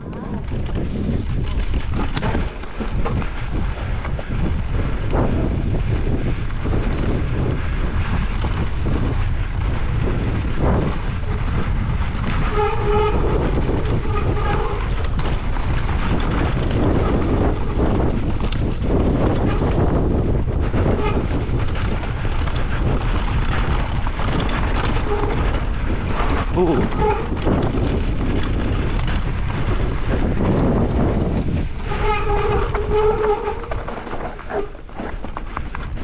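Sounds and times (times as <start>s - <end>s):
bike chain and frame clattering: 0.0s - 36.0s
tyres rumbling over dirt and rock: 0.0s - 36.0s
wind buffeting microphone: 0.0s - 36.0s.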